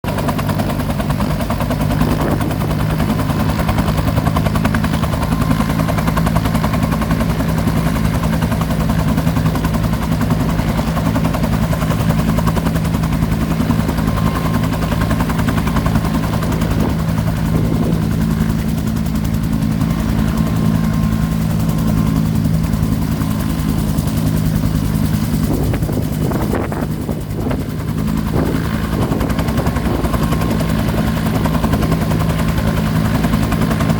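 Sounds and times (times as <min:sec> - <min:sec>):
helicopter engine drone: 0:00.0 - 0:33.9
helicopter rotor chop: 0:00.0 - 0:33.9.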